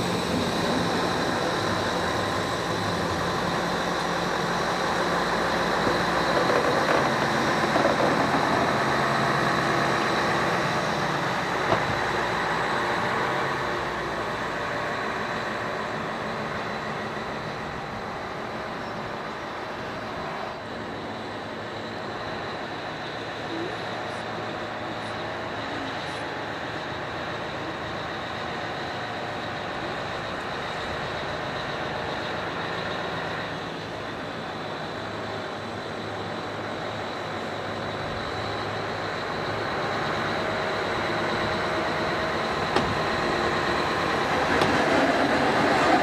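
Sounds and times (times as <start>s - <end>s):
diesel locomotive engine whining: 0.0s - 46.0s.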